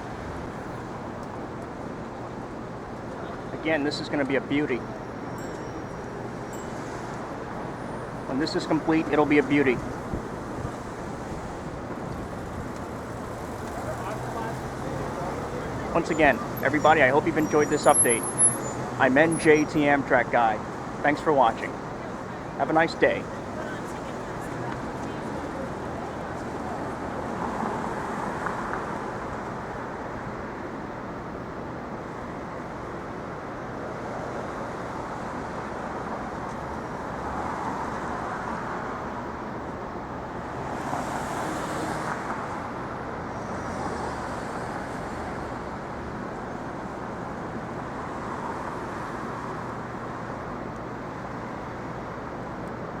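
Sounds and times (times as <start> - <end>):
city street traffic: 0.0 - 53.0.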